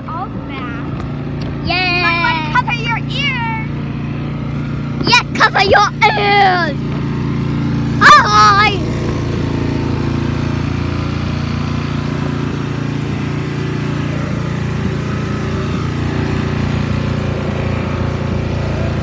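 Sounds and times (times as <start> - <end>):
snow blower engine running: 0.0 - 19.0.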